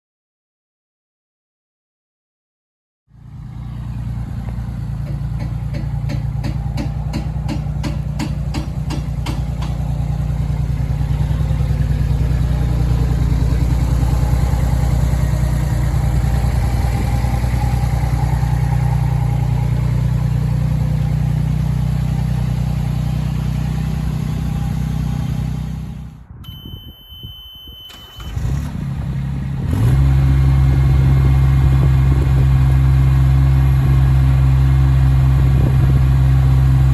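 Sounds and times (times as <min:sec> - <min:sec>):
small diesel engine running: 0:03.1 - 0:26.2, 0:27.9 - 0:36.9.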